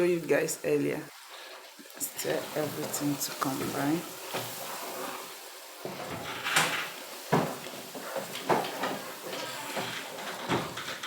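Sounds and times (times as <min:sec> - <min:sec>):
stew frying: 0:00.0 - 0:11.0
spoon scraping a pot: 0:02.0 - 0:11.0.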